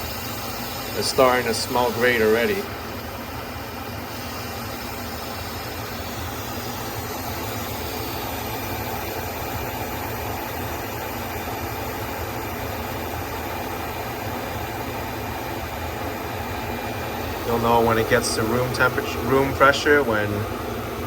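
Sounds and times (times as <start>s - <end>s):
pressure cooker venting steam: 0.0s - 21.0s.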